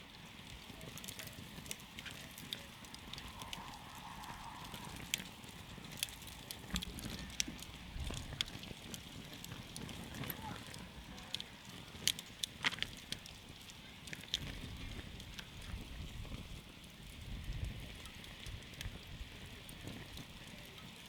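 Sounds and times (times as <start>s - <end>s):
wood campfire crackling: 0.0s - 21.0s.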